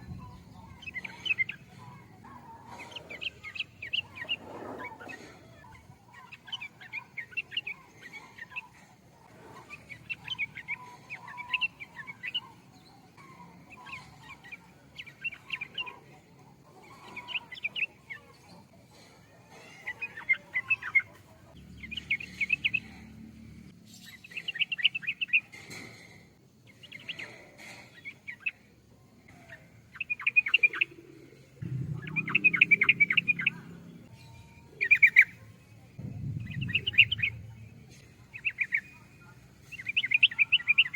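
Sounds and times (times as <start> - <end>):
bird chattering song: 0.0 - 23.1, 26.7 - 40.9.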